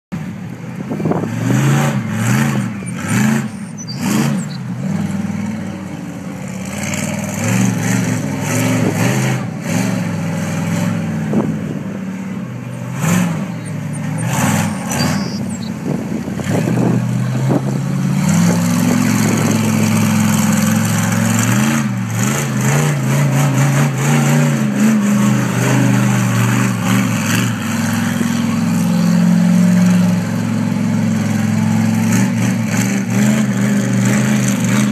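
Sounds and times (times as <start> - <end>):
truck engine revving: 0.2 - 34.9.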